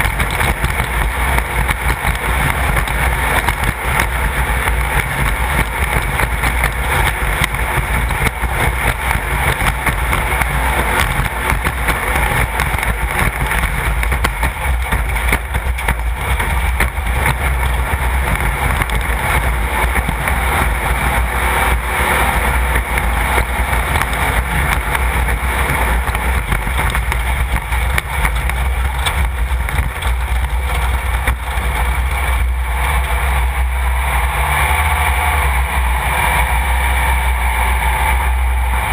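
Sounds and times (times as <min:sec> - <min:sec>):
race car engine droning: 0:00.0 - 0:38.9.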